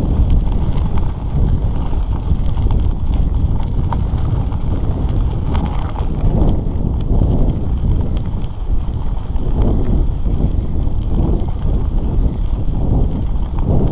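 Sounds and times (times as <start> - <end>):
stones and bike rattling: 0.0 - 13.9
tyres crunching over gravel: 0.0 - 13.9
wind buffeting microphone: 0.0 - 13.9.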